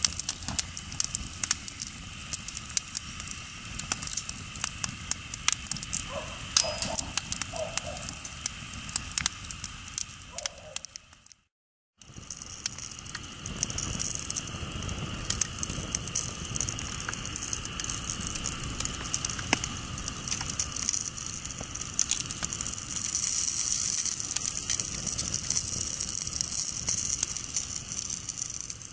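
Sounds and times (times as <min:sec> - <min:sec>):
steady hiss: 0:00.0 - 0:11.4, 0:12.0 - 0:28.9
campfire crackling and popping: 0:00.0 - 0:28.9.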